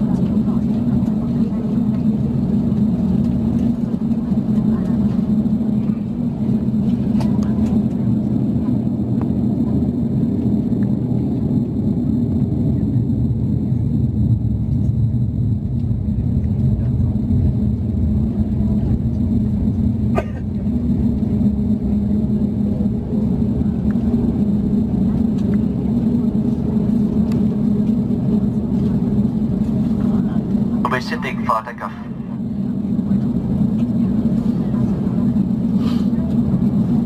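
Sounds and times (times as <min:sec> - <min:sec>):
aircraft cabin rumble: 0:00.0 - 0:37.0.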